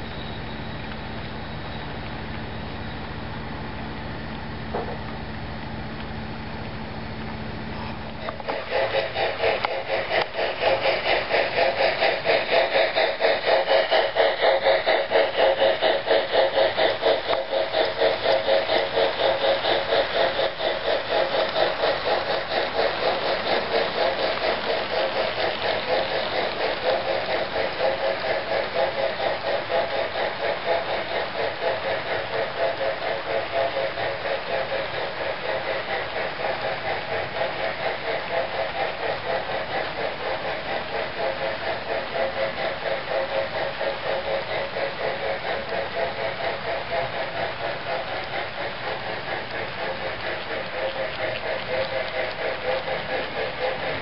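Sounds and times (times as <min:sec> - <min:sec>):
model steam locomotive chuffing: 0:00.0 - 0:54.0
model wheels rumbling on track: 0:06.4 - 0:54.0.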